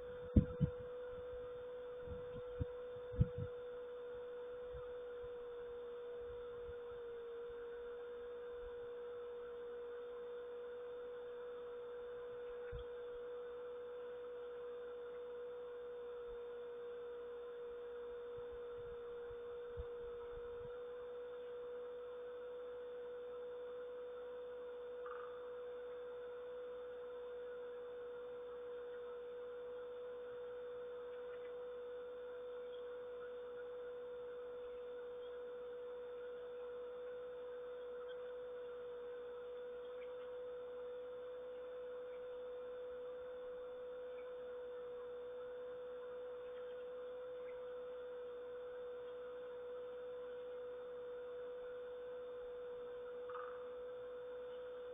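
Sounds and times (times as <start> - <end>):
steady hum: 0.0 - 54.9.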